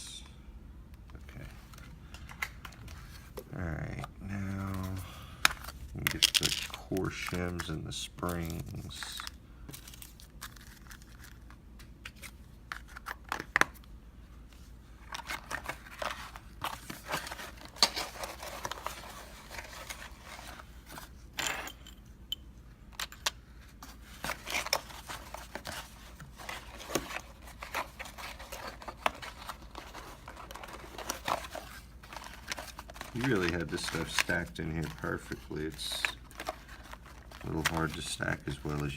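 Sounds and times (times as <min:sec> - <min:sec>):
packets rustling and scraping: 0:04.2 - 0:13.5, 0:14.6 - 0:21.7, 0:23.6 - 0:38.9.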